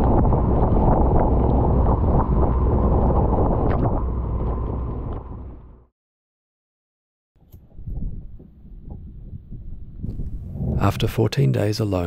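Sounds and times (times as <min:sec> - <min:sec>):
strong wind buffeting microphone: 0:00.0 - 0:05.9, 0:07.5 - 0:11.4.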